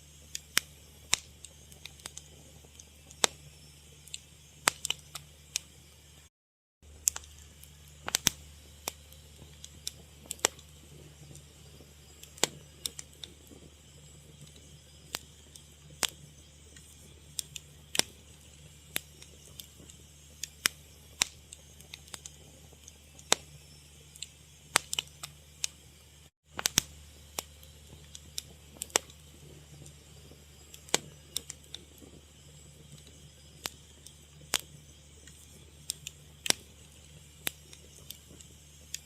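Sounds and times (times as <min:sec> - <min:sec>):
fire crackling and popping: 0:00.0 - 0:39.0
low steady hum: 0:00.0 - 0:39.0.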